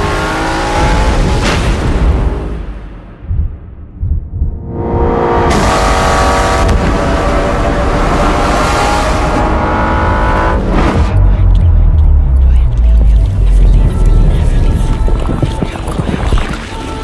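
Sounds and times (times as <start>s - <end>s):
car engine revving: 0.0s - 2.8s, 4.6s - 15.6s.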